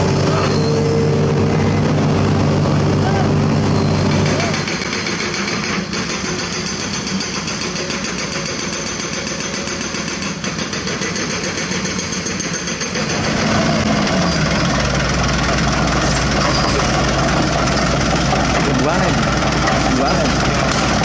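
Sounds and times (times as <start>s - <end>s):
heavy machinery diesel engines: 0.0s - 21.0s.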